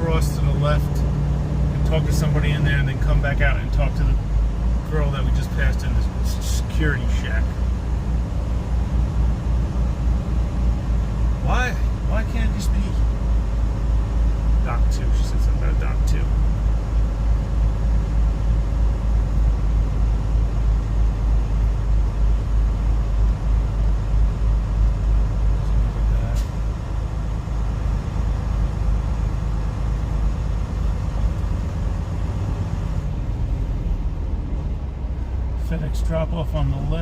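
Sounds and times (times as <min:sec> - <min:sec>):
diesel truck engine rumble: 0:00.0 - 0:37.0.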